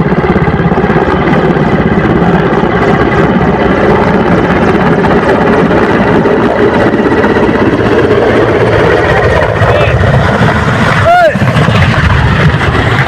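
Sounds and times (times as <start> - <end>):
helicopter rotor and engines: 0.0 - 13.0.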